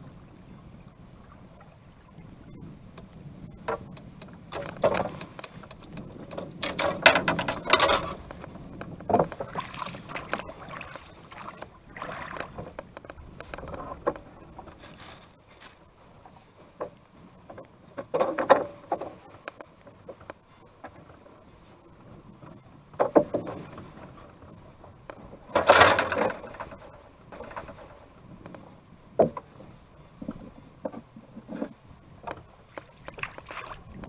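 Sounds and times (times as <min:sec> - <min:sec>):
oars splashing in water: 0:01.3 - 0:34.0
oars knocking in oarlocks: 0:03.0 - 0:21.2, 0:22.9 - 0:24.4, 0:25.0 - 0:34.0.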